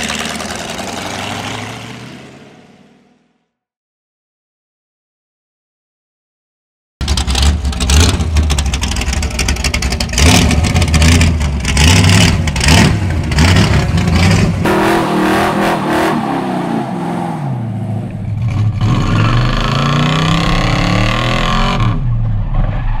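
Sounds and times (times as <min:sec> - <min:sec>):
car engine revving: 0:00.0 - 0:03.2, 0:07.0 - 0:22.7.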